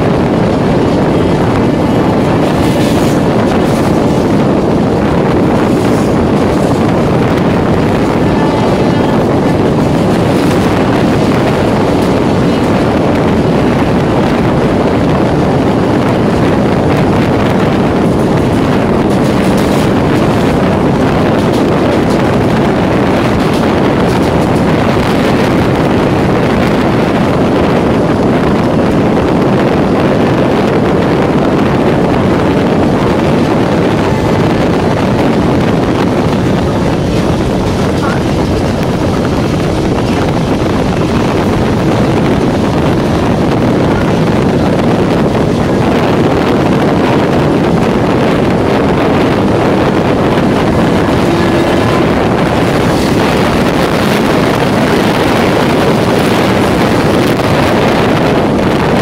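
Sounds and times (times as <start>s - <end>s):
train wheels rumbling on rails: 0.0s - 59.0s
wind on microphone: 0.0s - 59.0s.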